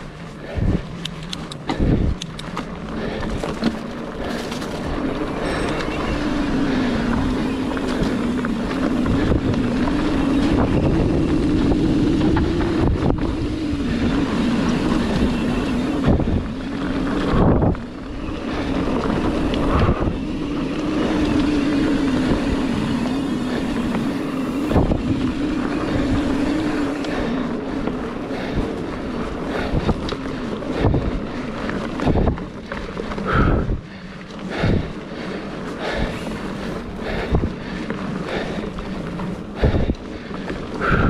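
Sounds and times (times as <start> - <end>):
knobby tyres rumbling on dirt: 0.0 - 41.0
steady wavering hum: 0.0 - 41.0
wind buffeting microphone: 0.0 - 41.0.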